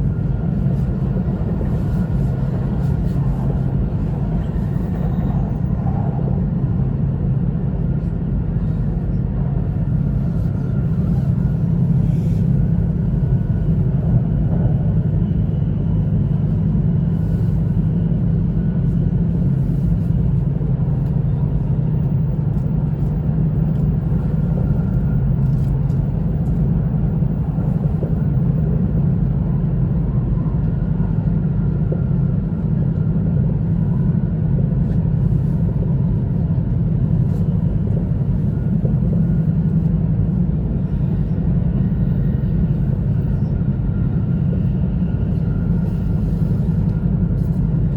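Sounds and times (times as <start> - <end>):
train rumbling on track: 0.0 - 47.9.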